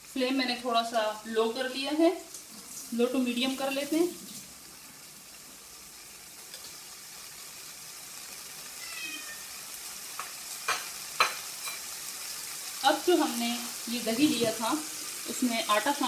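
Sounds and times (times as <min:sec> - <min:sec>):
spices sizzling in a pan: 0:00.0 - 0:16.0.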